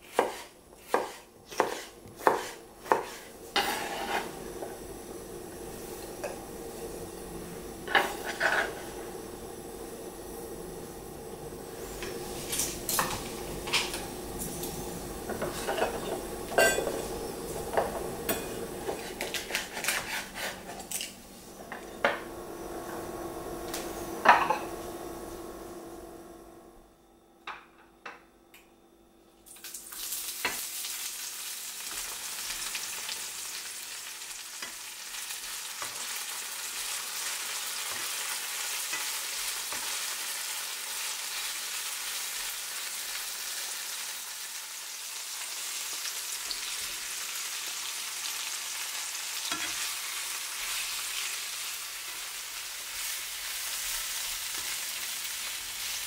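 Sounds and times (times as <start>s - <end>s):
vegetables sizzling in hot oil: 0.0s - 21.6s, 29.5s - 56.0s.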